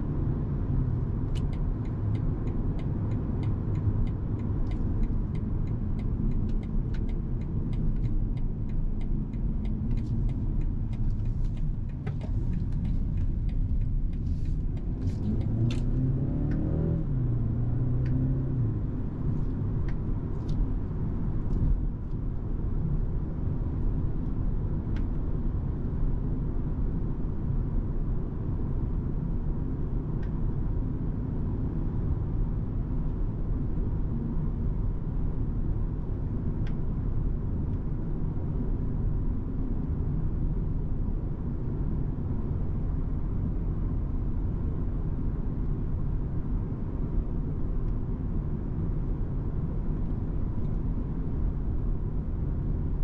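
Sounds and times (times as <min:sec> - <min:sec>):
car engine and tyre drone: 0:00.0 - 0:53.0.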